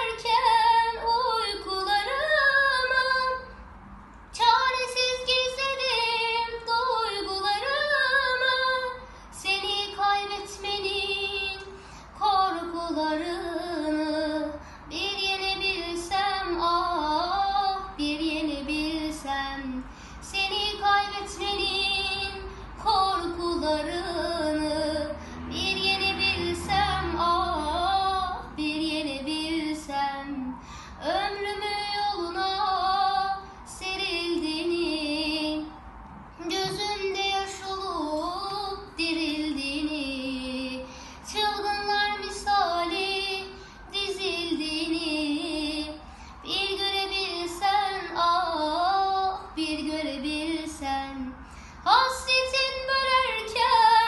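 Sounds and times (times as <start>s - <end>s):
girl singing unaccompanied: 0.0s - 3.6s, 4.2s - 35.8s, 36.4s - 54.0s.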